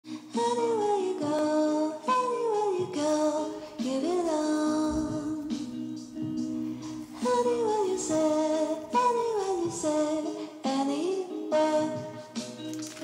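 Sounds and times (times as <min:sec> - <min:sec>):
person singing slow melody: 0:00.1 - 0:13.0
soft accompaniment: 0:00.2 - 0:13.0.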